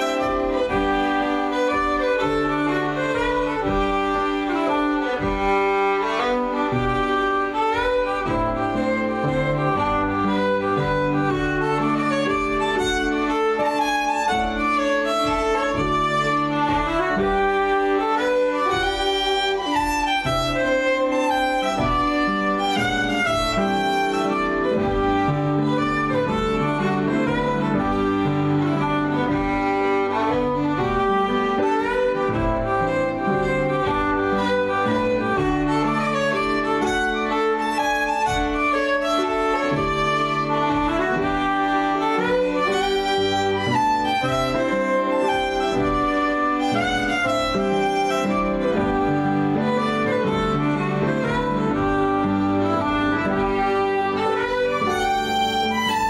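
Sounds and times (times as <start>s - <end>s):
concertina: 0.0s - 56.0s
fiddles playing folk tune: 0.0s - 56.0s
piano accompaniment: 0.0s - 56.0s.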